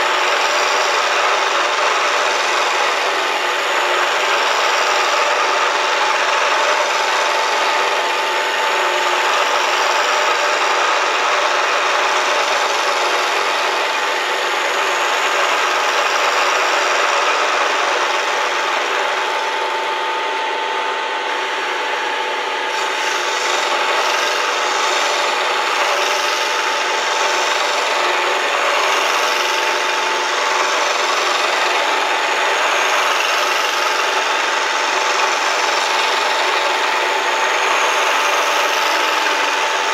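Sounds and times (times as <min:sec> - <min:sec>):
milling machine cutting with whine: 0:00.0 - 0:39.9.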